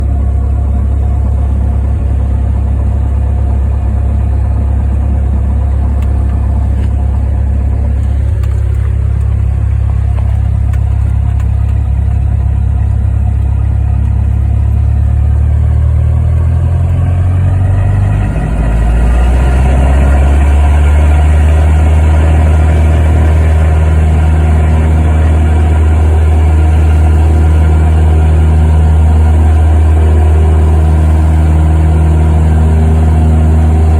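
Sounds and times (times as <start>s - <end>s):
light aircraft engine and propeller: 0.0s - 33.9s.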